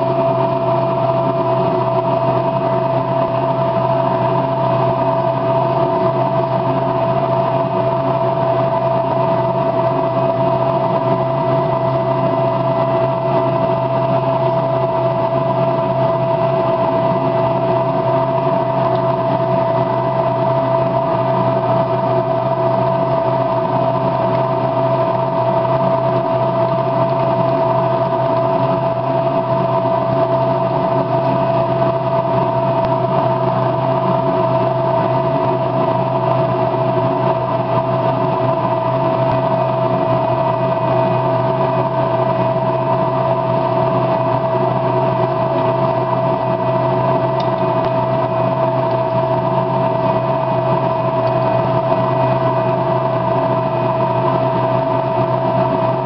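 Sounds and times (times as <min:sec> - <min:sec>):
machine drone: 0:00.0 - 0:56.0.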